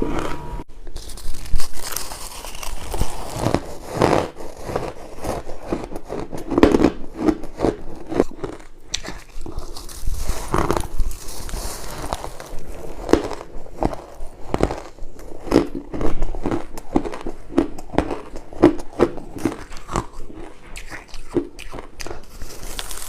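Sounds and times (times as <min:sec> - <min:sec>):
ice crunching being chewed: 0:01.0 - 0:23.0.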